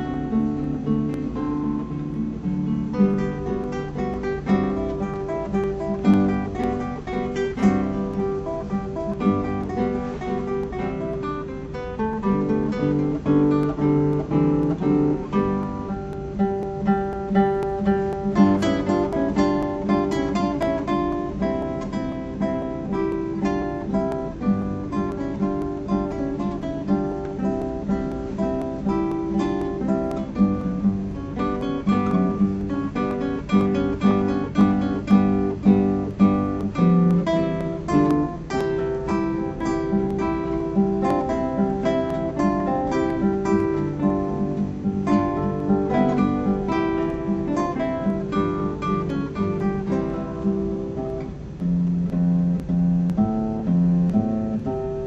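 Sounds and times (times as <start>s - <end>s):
classical guitars playing: 0.0s - 55.0s.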